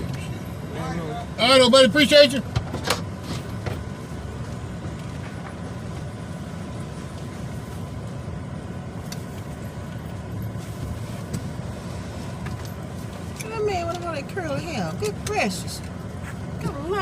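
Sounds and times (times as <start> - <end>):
motor vehicle rumbling: 0.0 - 17.0.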